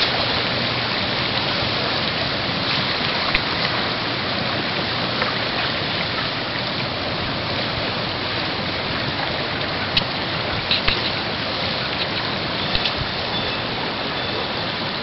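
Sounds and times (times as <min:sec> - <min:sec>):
water rushing with ice slabs: 0:00.0 - 0:15.0.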